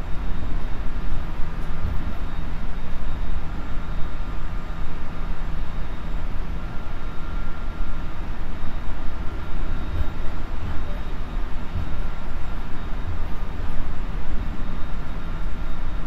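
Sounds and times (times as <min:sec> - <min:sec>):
faint steady whine: 0:00.0 - 0:16.0.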